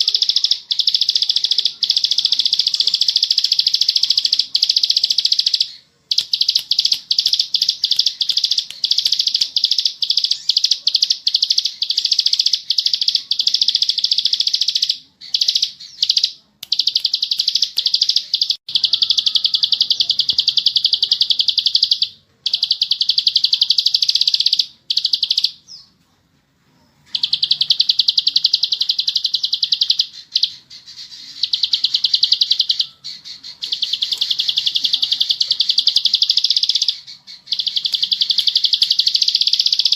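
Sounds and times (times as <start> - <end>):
bird singing fast chattering trills: 0.0 - 25.9, 27.1 - 39.9.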